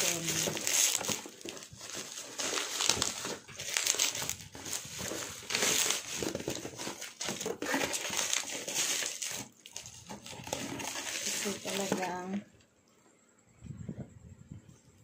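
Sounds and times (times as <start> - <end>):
bubble wrap and plastic crinkling: 0.0 - 12.5.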